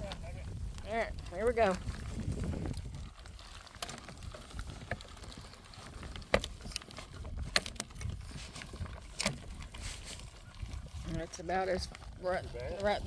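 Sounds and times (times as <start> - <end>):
low rumble of wind: 0.0 - 13.0
plastic sheet rolling up: 0.0 - 13.0.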